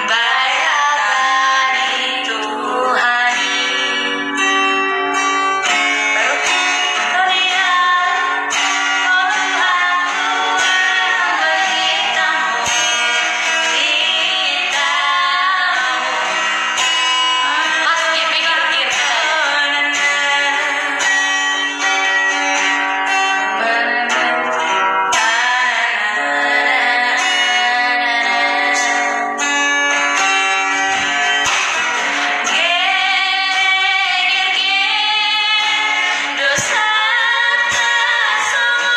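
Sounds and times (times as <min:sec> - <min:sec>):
woman singing: 0:00.0 - 0:05.8, 0:06.4 - 0:38.9
acoustic guitar: 0:00.0 - 0:38.9.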